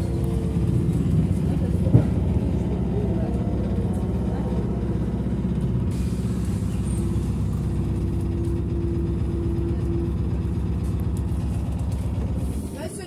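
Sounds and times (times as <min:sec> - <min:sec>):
rumble of wheels and road: 0:00.0 - 0:13.0.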